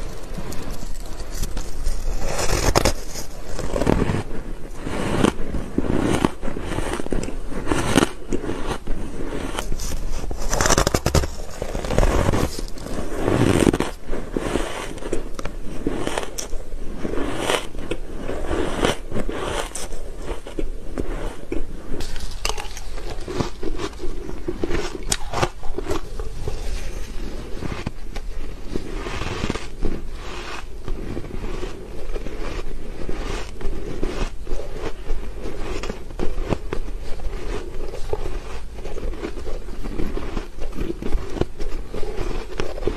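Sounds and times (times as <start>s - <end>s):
ice being chewed crunching: 0.0s - 42.9s
soft shaved ice being chewed: 0.0s - 42.9s.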